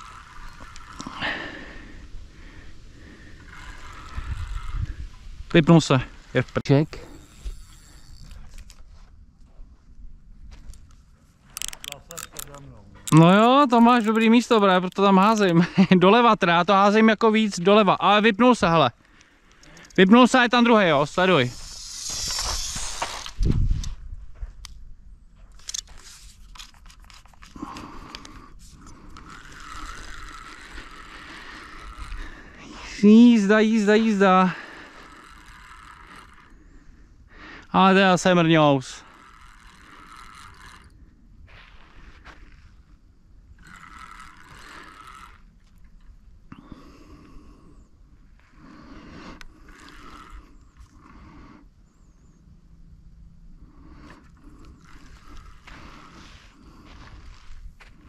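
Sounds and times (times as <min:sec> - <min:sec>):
fishing reel clicks and scrapes: 0:00.0 - 0:08.9, 0:10.7 - 0:15.9, 0:16.5 - 0:23.4, 0:25.5 - 0:37.0, 0:37.6 - 0:41.1, 0:43.5 - 0:47.6, 0:48.6 - 0:51.6, 0:53.6 - 0:57.6
fishing reel whining: 0:00.0 - 0:08.9, 0:10.8 - 0:23.4, 0:25.5 - 0:52.4, 0:53.6 - 0:57.6.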